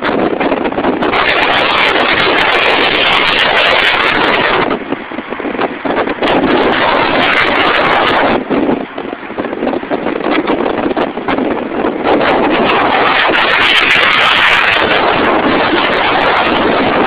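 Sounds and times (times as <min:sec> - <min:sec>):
crackles: 0:00.0 - 0:17.0
wind buffeting microphone: 0:00.0 - 0:17.0.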